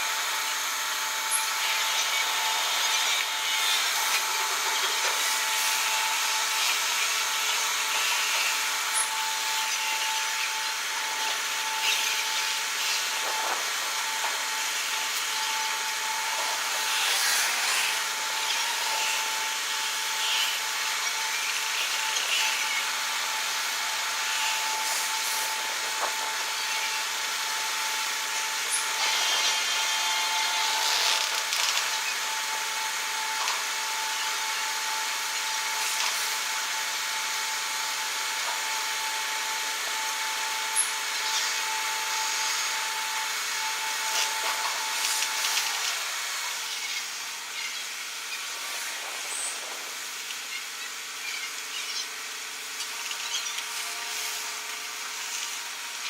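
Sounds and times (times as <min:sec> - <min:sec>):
mechanical hum and hiss: 0:00.0 - 0:56.0.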